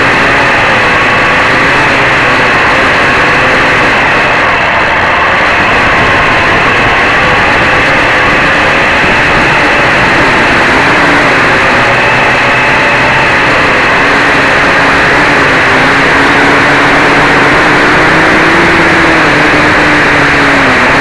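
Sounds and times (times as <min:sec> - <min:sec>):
quadcopter motors whirring: 0:00.0 - 0:21.0.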